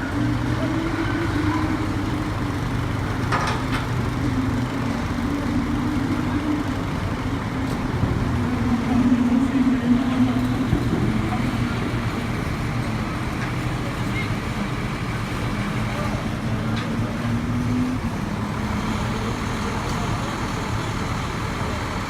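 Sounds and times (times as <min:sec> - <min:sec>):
engine running at low revs: 0:00.0 - 0:22.0
street circuit noise: 0:00.0 - 0:22.0.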